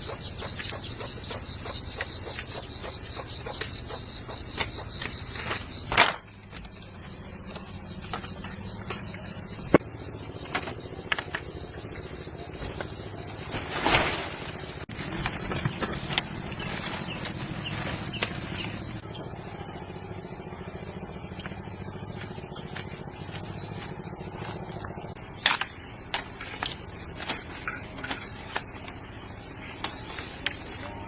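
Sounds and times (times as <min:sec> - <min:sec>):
engine running with low hum: 0:00.0 - 0:31.0.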